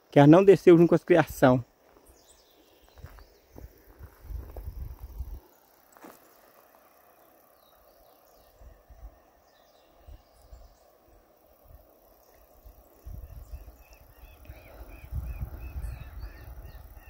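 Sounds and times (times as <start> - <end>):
faint insect hum: 0.0 - 17.0.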